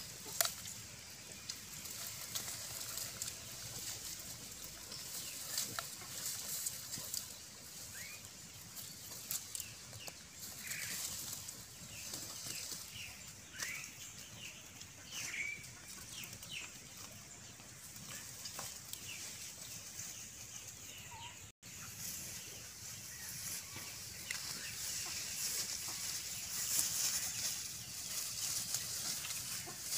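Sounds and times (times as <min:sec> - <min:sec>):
pigs rustling in dry leaves: 0:00.0 - 0:20.9, 0:21.6 - 0:29.9.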